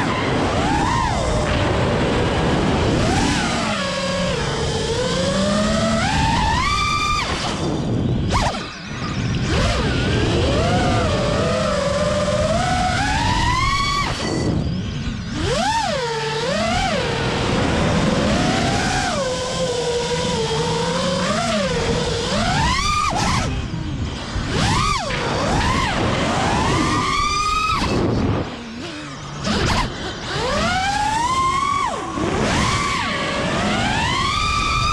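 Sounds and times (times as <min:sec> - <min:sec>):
quadcopter motors whining: 0:00.0 - 0:34.9.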